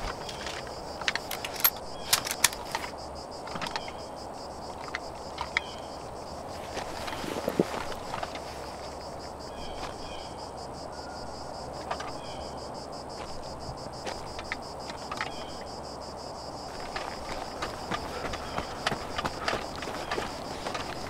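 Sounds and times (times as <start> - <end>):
insects trilling: 0.0 - 21.0
low outdoor ambience: 0.0 - 21.0.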